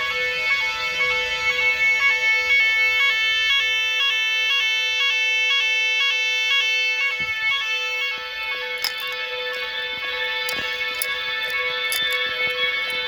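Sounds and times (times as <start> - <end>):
two-pitch electronic fire alarm: 0.0 - 13.0.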